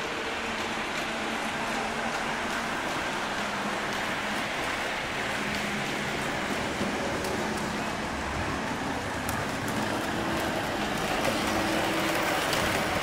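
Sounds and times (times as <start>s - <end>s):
model trains rolling rumble: 0.0s - 13.0s.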